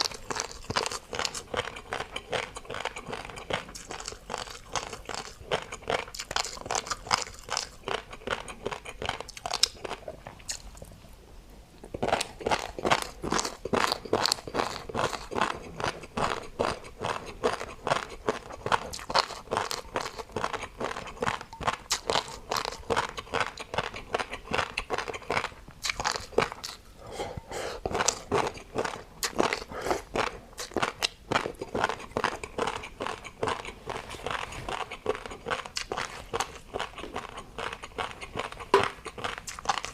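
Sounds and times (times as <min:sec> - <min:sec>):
crunchy chewing of food: 0:00.0 - 0:39.9.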